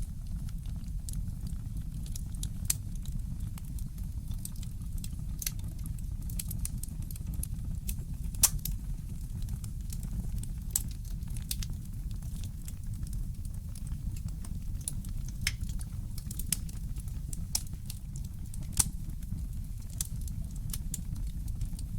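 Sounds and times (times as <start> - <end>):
fire popping and snapping: 0.0 - 21.9
low fire rumble: 0.0 - 21.9.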